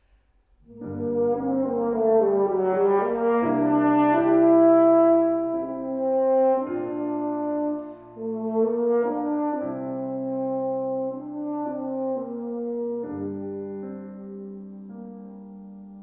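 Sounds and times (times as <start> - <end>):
french horn playing slow melody: 0.6 - 16.0.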